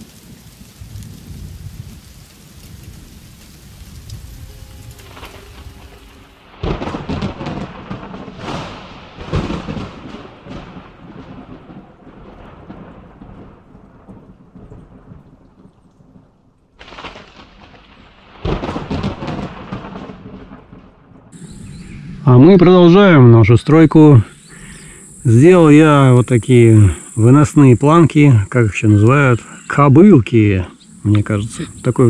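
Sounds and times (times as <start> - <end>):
rain hissing: 0.0 - 15.4, 21.3 - 32.0
thunder rumbles: 0.0 - 32.0.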